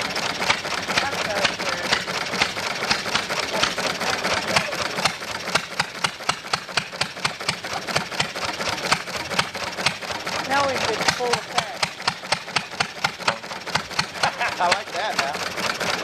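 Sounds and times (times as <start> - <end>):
stationary engine exhaust beats: 0.0 - 16.0.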